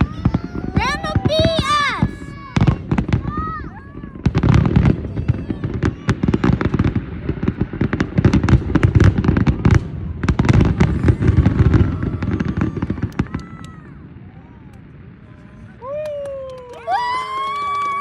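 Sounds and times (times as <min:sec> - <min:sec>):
fireworks booming and crackling: 0:00.0 - 0:16.6.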